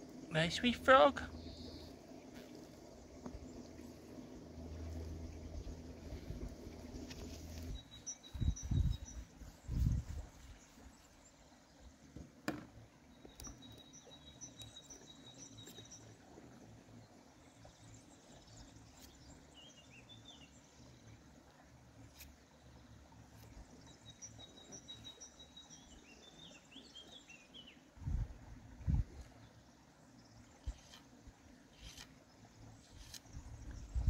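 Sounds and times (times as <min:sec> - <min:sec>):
small birds twittering: 0:00.2 - 0:04.3, 0:06.8 - 0:12.2, 0:13.0 - 0:21.2, 0:22.1 - 0:27.9, 0:29.4 - 0:34.0.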